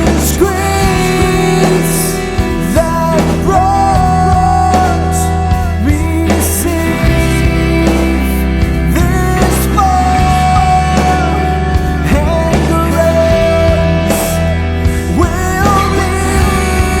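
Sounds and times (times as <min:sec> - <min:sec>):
rock song with guitar and vocals: 0:00.0 - 0:17.0.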